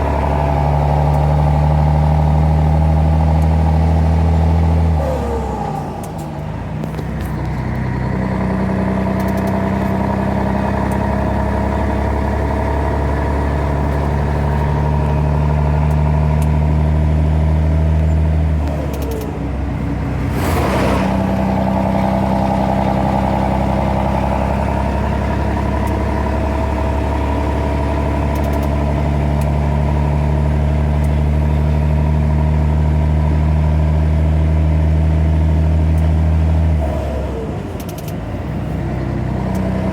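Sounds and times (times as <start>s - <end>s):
diesel truck engine under load: 0.0s - 39.9s.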